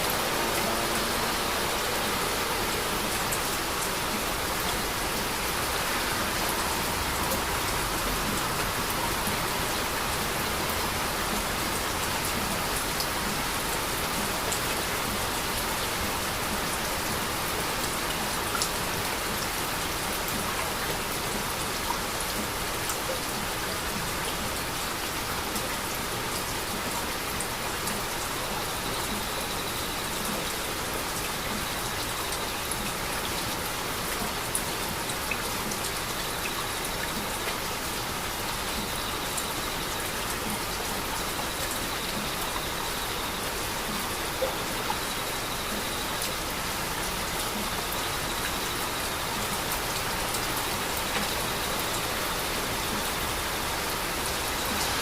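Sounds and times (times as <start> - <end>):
heavy rain falling: 0.0 - 55.0
raindrops ticking on surfaces: 0.0 - 55.0.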